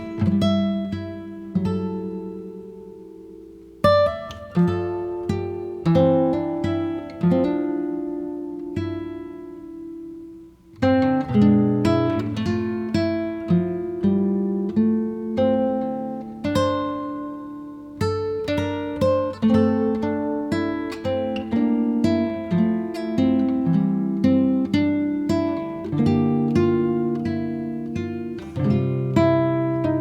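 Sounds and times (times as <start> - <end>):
acoustic guitar plucked notes: 0.0 - 30.0.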